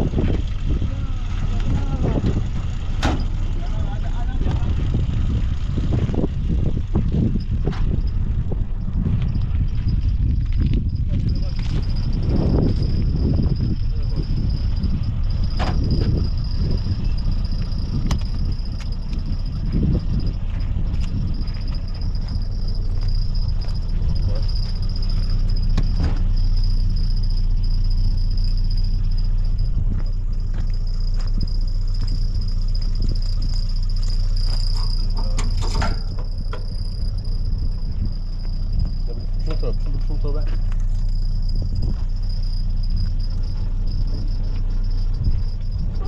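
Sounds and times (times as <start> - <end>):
continuous low rumble: 0.0 - 46.0
crickets trilling: 0.0 - 46.0.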